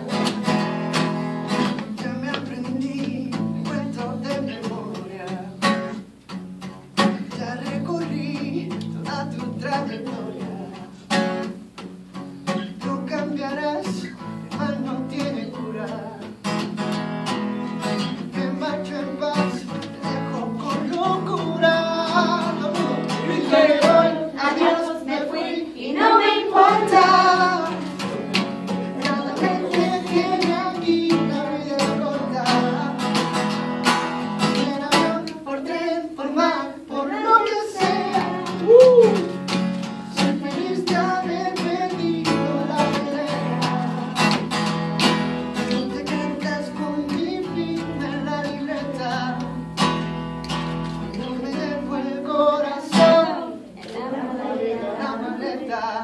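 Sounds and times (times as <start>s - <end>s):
acoustic guitar strumming: 0.0s - 56.0s
man singing: 1.6s - 6.0s, 7.0s - 11.0s, 12.6s - 16.4s, 18.0s - 25.8s, 26.5s - 33.4s, 34.4s - 44.6s, 45.5s - 49.8s, 51.0s - 56.0s.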